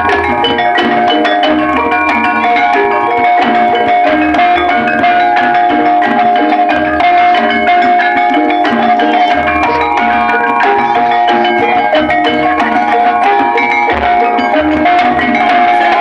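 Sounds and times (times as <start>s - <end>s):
loud gamelan ensemble music: 0.0s - 16.0s.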